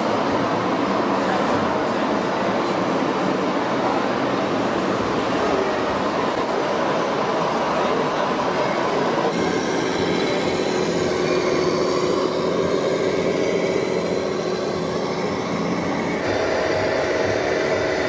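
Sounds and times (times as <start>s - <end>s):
model trucks running: 0.0s - 18.0s.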